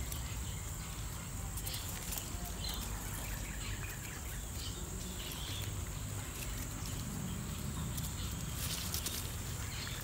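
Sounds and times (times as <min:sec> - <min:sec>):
crickets chirring: 0:00.0 - 0:10.0
rustling leaves and twigs: 0:00.0 - 0:10.0.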